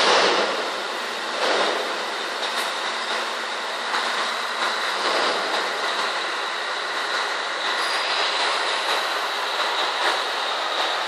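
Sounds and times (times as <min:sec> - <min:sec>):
steady high whine: 0:00.0 - 0:11.0
truck engine: 0:00.0 - 0:11.0
tyres on steel deck: 0:00.0 - 0:11.0.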